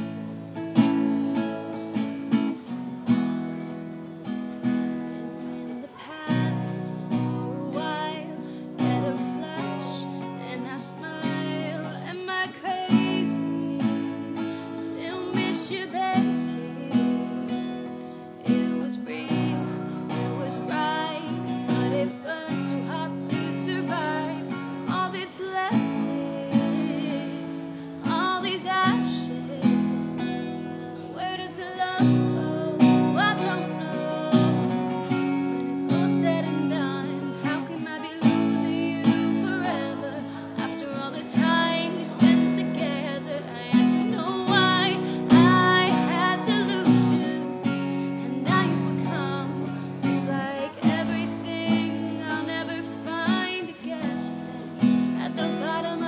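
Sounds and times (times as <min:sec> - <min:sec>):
acoustic guitar strumming: 0:00.0 - 0:56.0
woman singing: 0:00.0 - 0:56.0.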